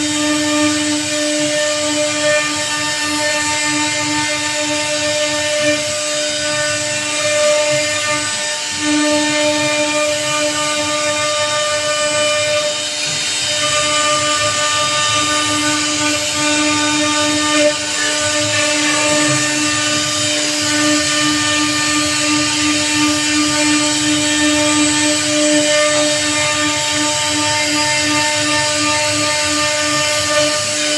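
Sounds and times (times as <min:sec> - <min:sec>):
hiss of bit cutting wood: 0:00.0 - 0:30.9
router spindle whine: 0:00.0 - 0:30.9.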